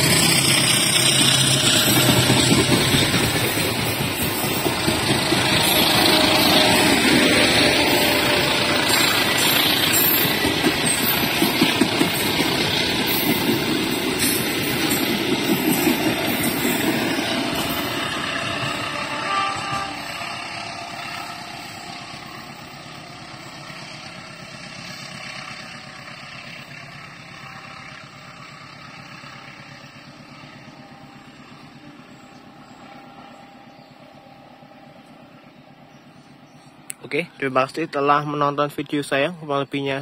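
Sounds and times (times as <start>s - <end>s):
freight train wagons on rails: 0.0s - 40.0s.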